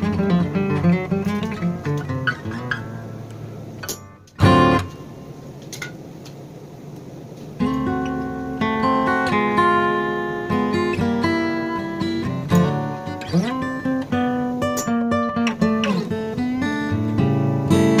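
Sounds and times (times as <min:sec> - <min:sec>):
acoustic guitar plucked and strummed: 0:00.0 - 0:06.0, 0:07.5 - 0:18.0.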